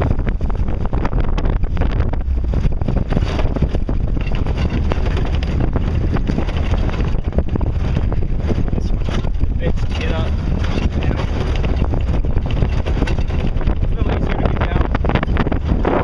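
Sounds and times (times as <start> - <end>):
engine and road rumble: 0.0 - 16.0
knocks and rattles: 0.0 - 16.0
wind buffeting microphone: 0.0 - 16.0.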